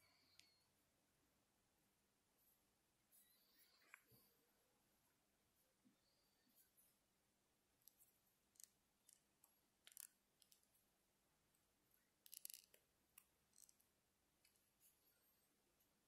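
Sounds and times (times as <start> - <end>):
faint ticks and rustles of crocheting: 0.0 - 1.0, 1.6 - 16.0.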